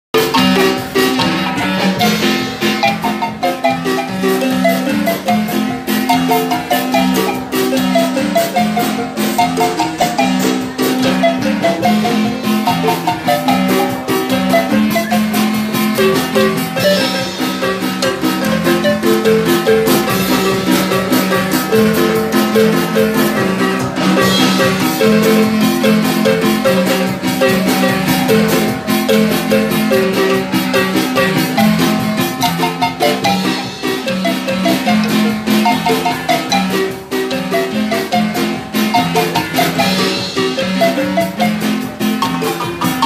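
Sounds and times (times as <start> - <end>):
marimba playing dance music: 0.1 - 43.0.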